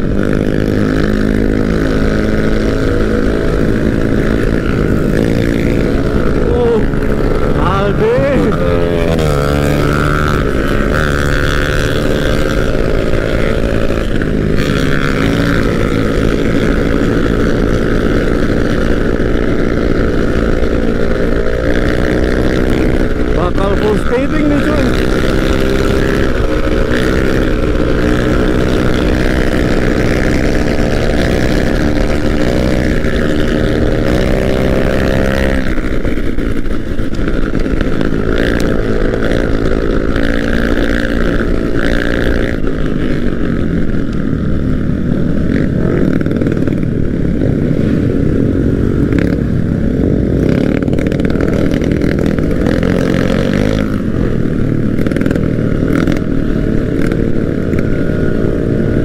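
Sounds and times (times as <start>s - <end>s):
motor scooter engine running: 0.0s - 59.0s
road noise: 0.0s - 59.0s.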